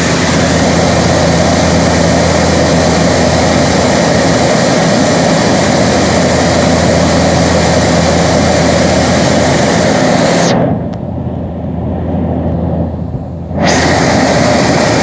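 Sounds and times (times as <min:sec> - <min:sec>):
turboprop engine drone: 0:00.0 - 0:15.0.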